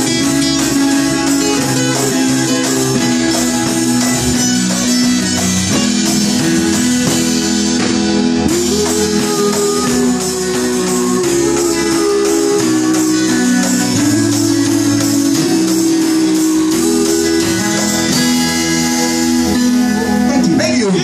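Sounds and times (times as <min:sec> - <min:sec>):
bass guitar: 0:00.0 - 0:21.0
drums: 0:00.0 - 0:21.0
keyboard: 0:00.0 - 0:21.0
strummed acoustic guitar: 0:00.0 - 0:21.0.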